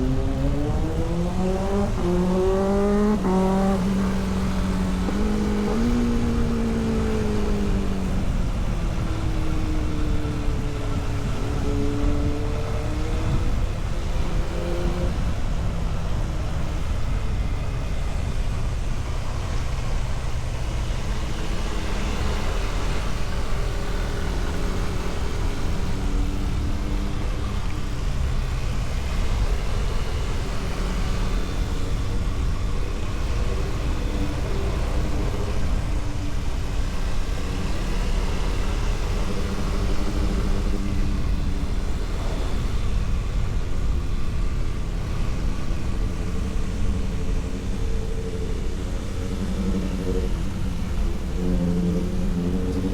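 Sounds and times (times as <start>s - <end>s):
vehicle engine running: 0.0s - 52.9s
wind and road noise: 0.0s - 52.9s.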